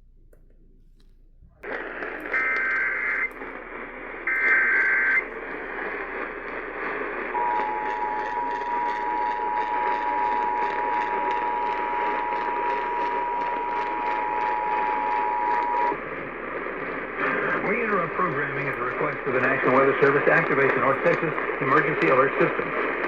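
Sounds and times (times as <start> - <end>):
radio static hiss and crackle: 1.5 - 23.0.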